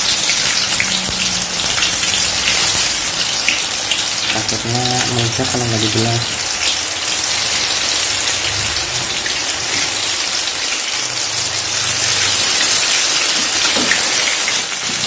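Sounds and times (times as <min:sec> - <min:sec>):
deep-frying sizzle in oil: 0:00.0 - 0:15.0.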